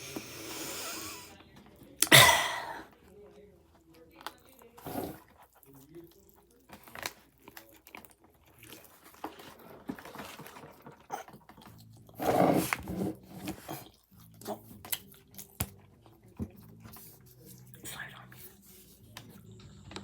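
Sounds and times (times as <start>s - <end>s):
chewing and crunching: 2.9s - 20.0s.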